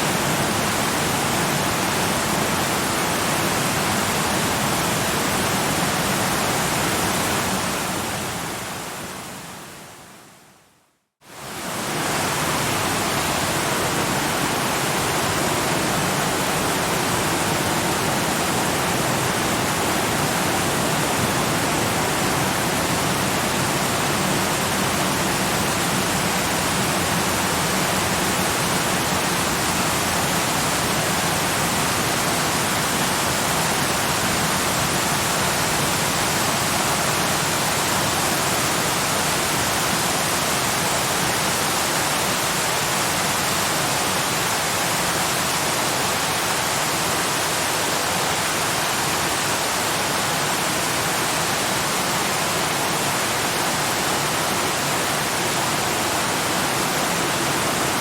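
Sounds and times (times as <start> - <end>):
waterfall rushing: 11.3 - 58.0.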